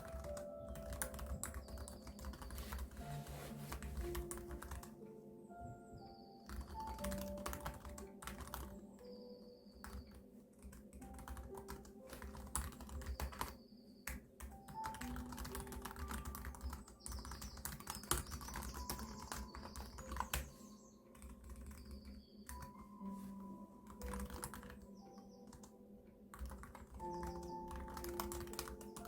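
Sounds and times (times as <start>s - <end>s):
soft background music: 0.0s - 29.0s.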